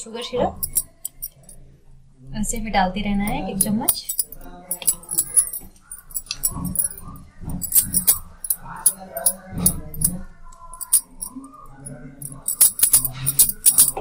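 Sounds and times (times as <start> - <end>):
bangles jingling: 0.6 - 1.6, 3.4 - 14.0.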